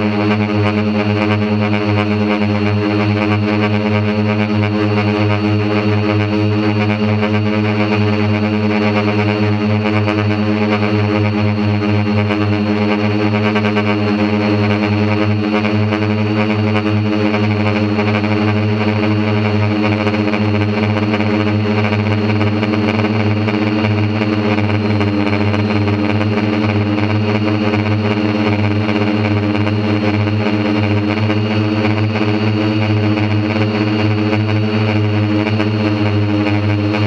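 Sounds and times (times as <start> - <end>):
drone motors humming: 0.0 - 37.0.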